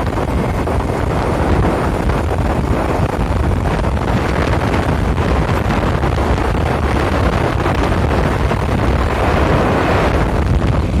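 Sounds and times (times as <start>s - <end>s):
low rumble of travel: 0.0s - 11.0s
wind buffeting microphone: 0.0s - 11.0s.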